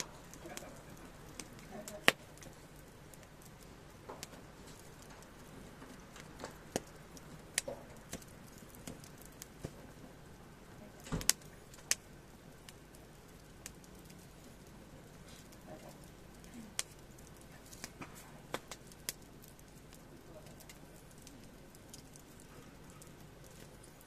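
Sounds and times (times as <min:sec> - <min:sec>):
fire sharp pops: 0:00.0 - 0:24.0
firewood crackling: 0:00.0 - 0:24.0.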